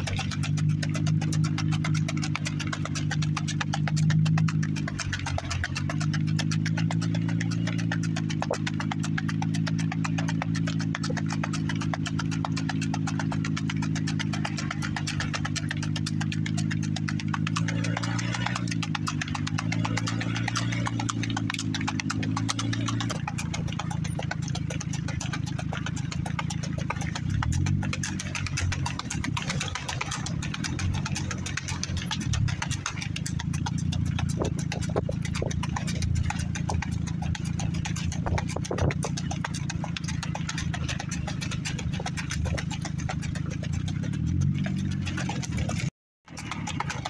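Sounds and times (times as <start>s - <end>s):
car engine humming: 0.0s - 47.0s
hoofbeats on gravel: 0.0s - 47.0s.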